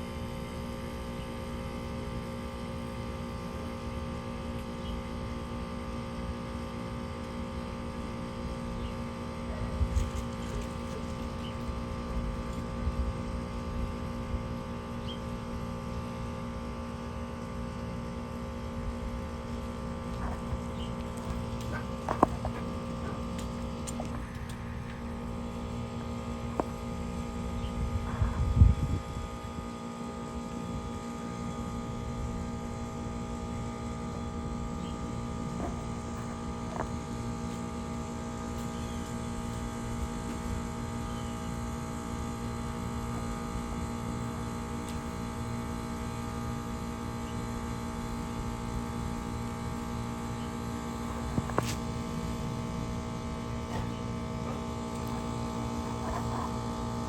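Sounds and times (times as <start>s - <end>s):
air conditioner unit humming: 0.0s - 57.0s.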